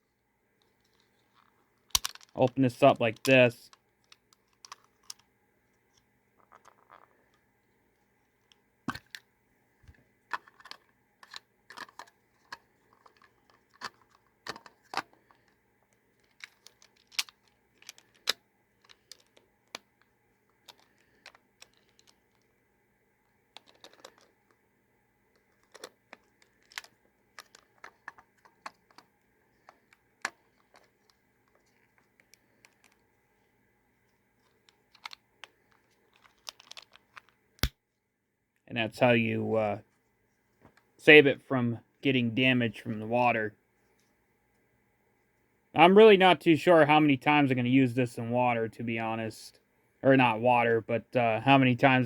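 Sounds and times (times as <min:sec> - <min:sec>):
faint electrical hum: 0:00.0 - 0:52.0.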